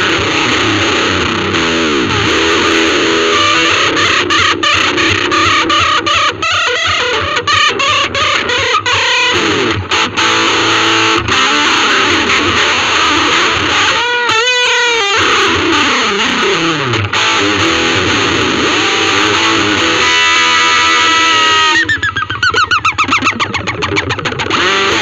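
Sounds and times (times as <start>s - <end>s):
electric guitar lead playing: 0.0s - 25.0s.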